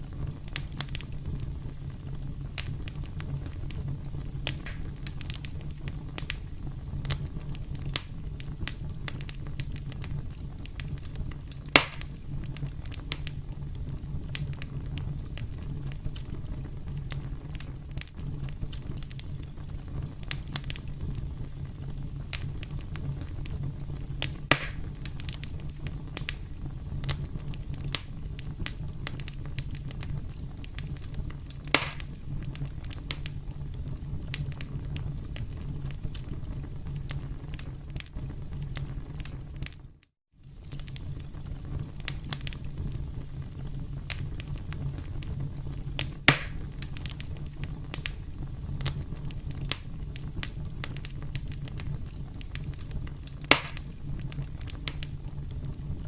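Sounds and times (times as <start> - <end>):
campfire rumble and crackling: 0.0 - 56.0
loud fire pops: 0.0 - 56.0.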